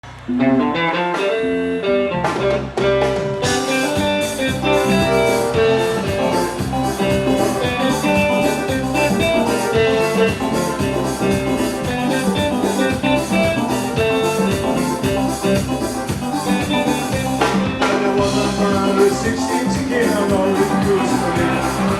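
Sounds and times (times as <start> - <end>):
calypso band playing: 0.0 - 21.9.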